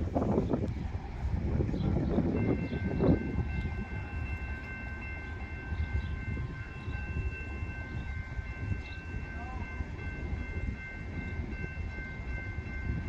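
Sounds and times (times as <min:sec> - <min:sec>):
diesel locomotive rumble: 0:00.0 - 0:13.0.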